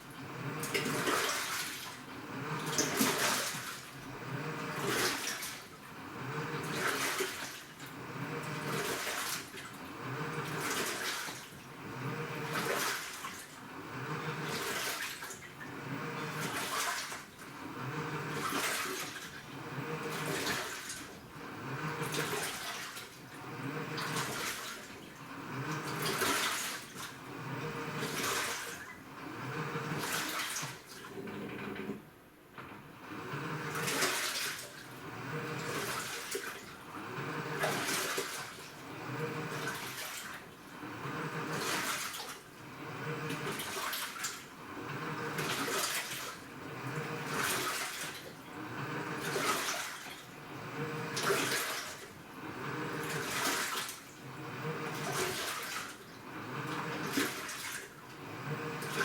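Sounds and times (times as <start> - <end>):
washing machine motor humming: 0.0 - 59.0
water sloshing: 6.6 - 13.6, 14.2 - 31.1, 33.7 - 59.0.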